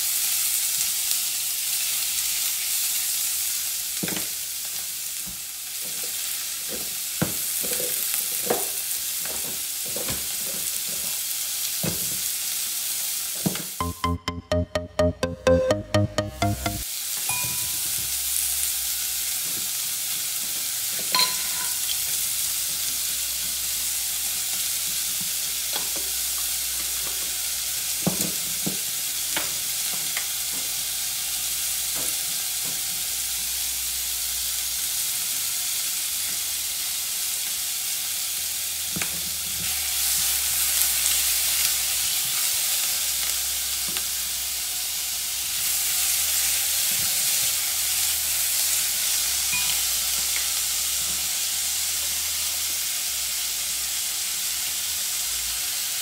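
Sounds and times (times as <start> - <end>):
chicken sizzling in hot oil: 0.0 - 13.8, 16.8 - 56.0.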